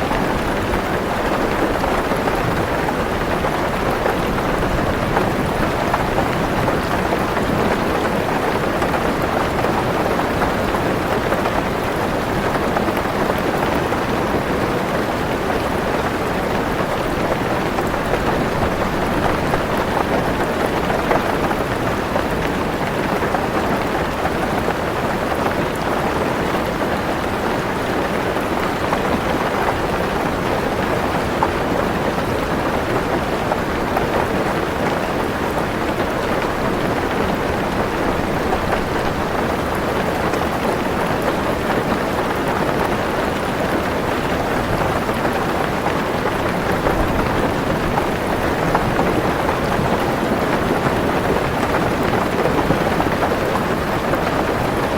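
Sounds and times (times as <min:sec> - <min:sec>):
heavy rain on a car roof: 0:00.0 - 0:54.9.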